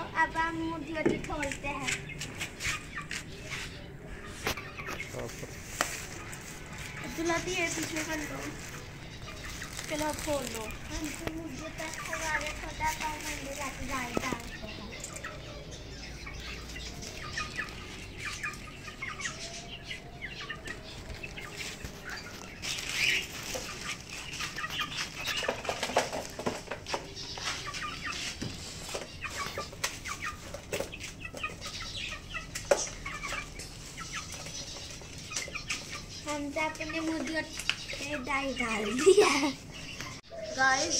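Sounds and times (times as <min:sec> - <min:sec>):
hens clucking: 0:00.0 - 0:40.9.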